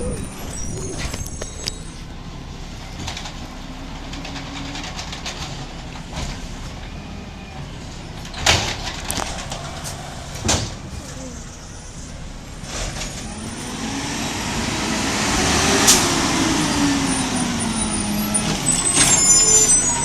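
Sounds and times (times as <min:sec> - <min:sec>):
garbage truck engine rumbling: 0:00.0 - 0:20.0.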